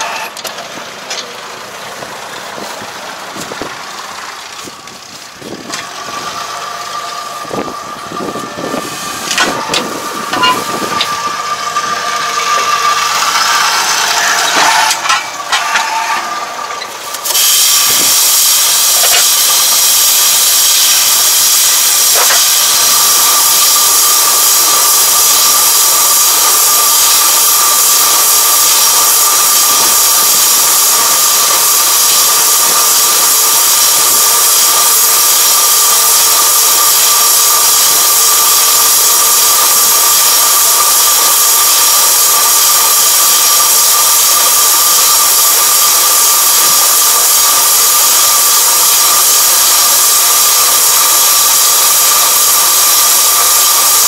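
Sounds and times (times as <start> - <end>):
bale wrapper hissing and whining: 2.0 - 54.0.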